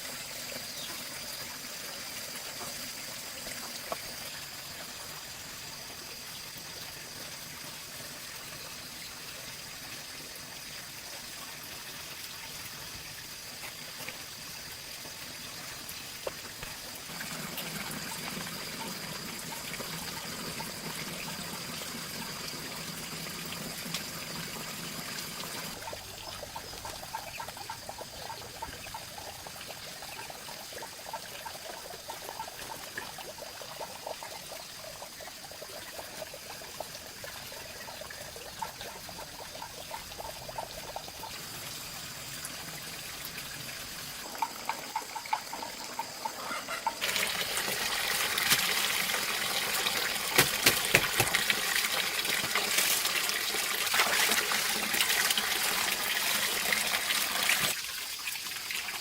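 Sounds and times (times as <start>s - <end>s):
water trickling and pouring: 0.0s - 59.0s.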